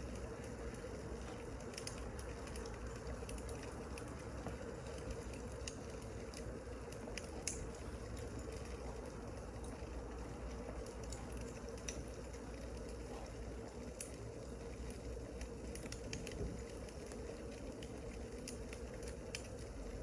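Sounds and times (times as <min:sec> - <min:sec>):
fire hissing: 0:00.0 - 0:20.0
wood fire popping: 0:00.0 - 0:20.0.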